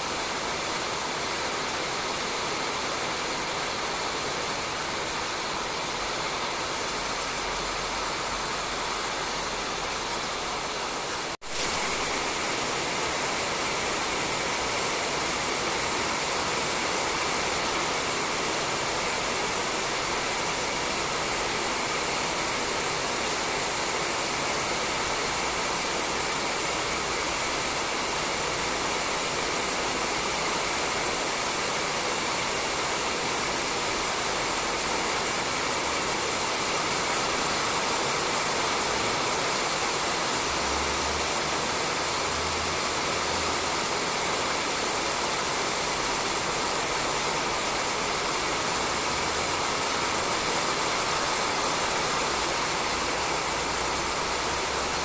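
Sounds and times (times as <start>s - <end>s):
rain falling on a roof: 0.0s - 55.0s.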